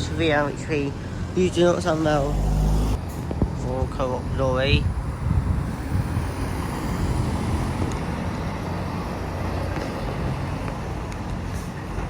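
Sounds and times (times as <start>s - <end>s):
heavy vehicle engine rumble: 0.0s - 12.0s
traffic noise: 0.0s - 12.0s.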